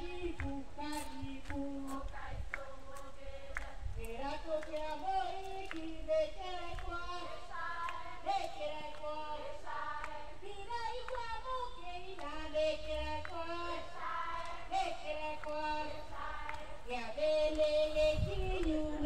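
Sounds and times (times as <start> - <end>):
women singing a melody: 0.0 - 19.0.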